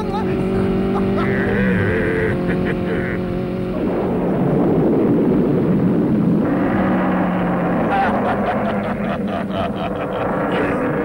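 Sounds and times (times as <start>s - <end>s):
cartoon rushing rumble: 0.0s - 11.0s
steady engine drone: 0.0s - 11.0s.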